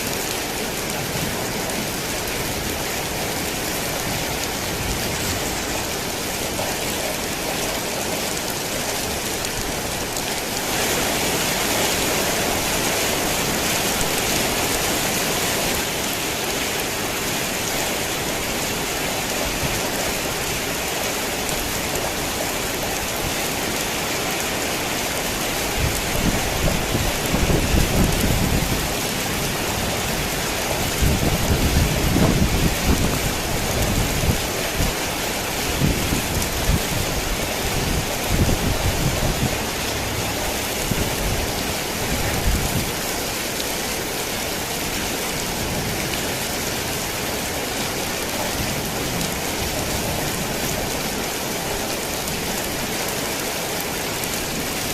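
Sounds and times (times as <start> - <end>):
heavy rain on a tin roof: 0.0 - 54.9.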